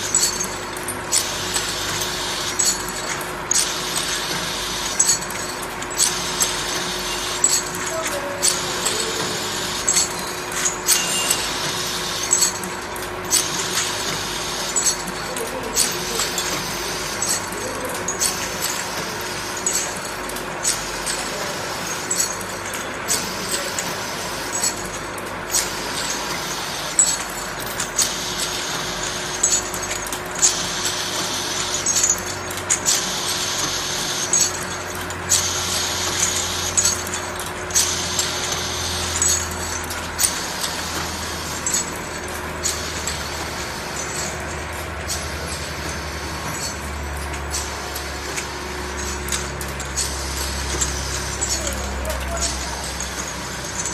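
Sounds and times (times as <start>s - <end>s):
glass ampoules clinking: 0.0s - 53.9s
machine motor hum: 0.0s - 53.9s.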